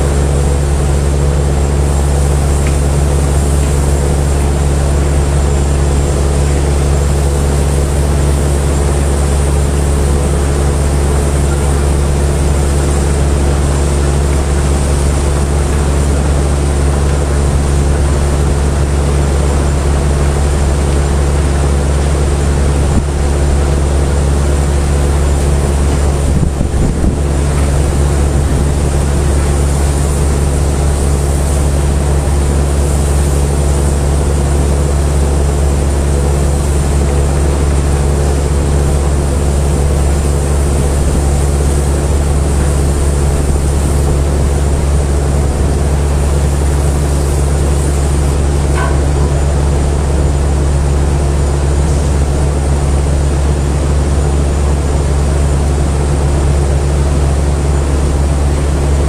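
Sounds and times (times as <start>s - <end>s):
heavy engine droning: 0.0s - 59.0s.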